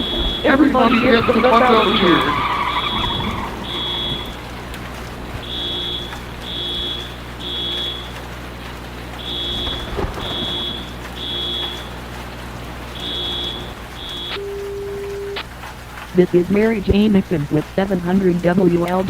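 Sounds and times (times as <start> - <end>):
fire alarm beeping: 0.0 - 17.4
low hum: 0.0 - 19.0
steady rain-like noise: 0.0 - 19.0.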